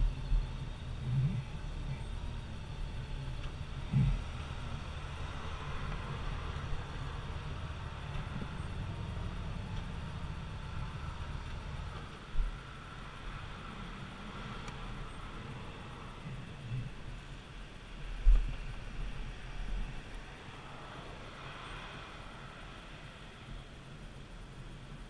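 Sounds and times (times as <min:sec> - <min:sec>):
motorcycle engine and road drone: 0:00.0 - 0:25.0.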